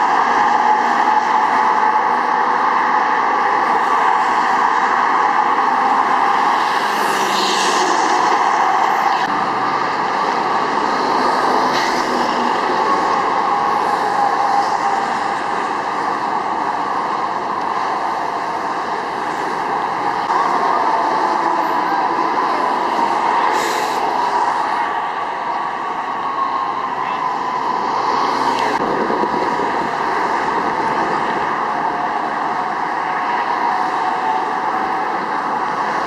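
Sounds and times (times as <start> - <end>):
highway traffic tyre noise: 0.0 - 36.0.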